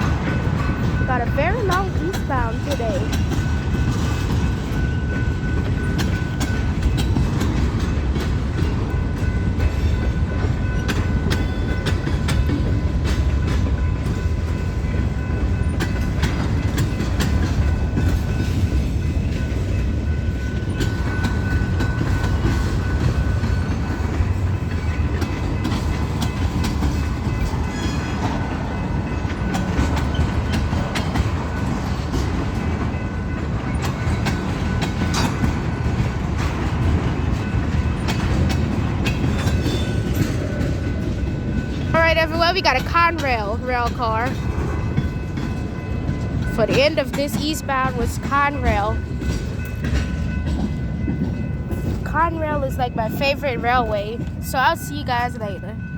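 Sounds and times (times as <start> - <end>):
wheels clicking over rail joints: 0.0 - 54.5
train rumbling past: 0.0 - 55.9.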